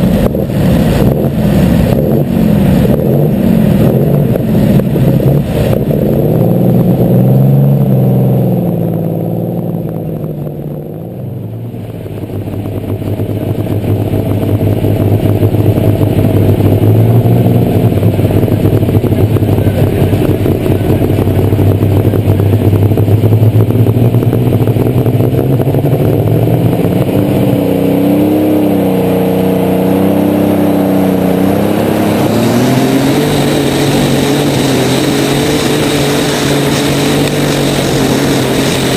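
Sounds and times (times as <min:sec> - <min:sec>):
pulling tractor engine running loud: 0:00.0 - 0:38.9.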